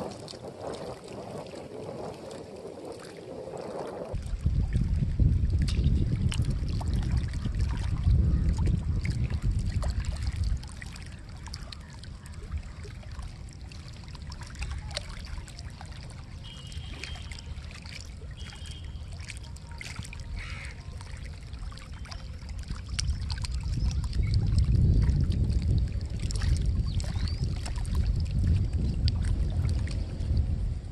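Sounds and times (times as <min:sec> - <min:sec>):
lake water lapping on rocks: 0:00.0 - 0:30.6
wind buffeting microphone: 0:00.0 - 0:30.9.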